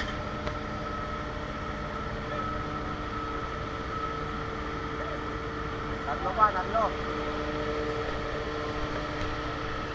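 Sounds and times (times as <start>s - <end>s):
machinery drone with high whine: 0.0s - 9.9s.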